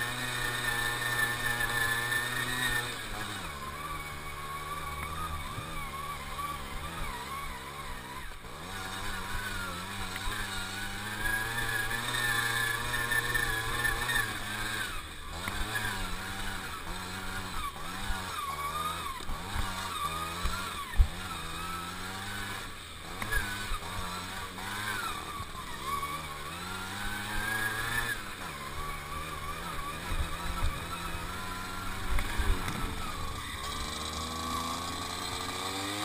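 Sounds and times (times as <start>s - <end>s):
moped engine revving: 0.0s - 36.0s.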